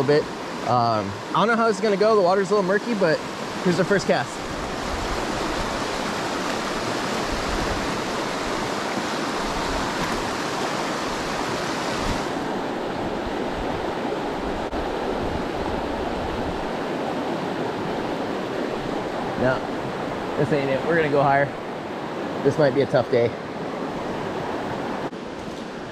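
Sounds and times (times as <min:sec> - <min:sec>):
river rushing over rocks: 0:00.0 - 0:25.9.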